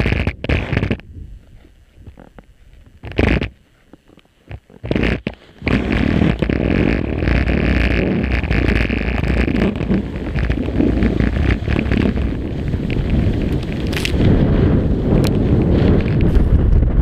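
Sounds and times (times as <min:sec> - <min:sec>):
skis scraping over snow: 0:00.0 - 0:16.9
wind on microphone: 0:00.0 - 0:17.0.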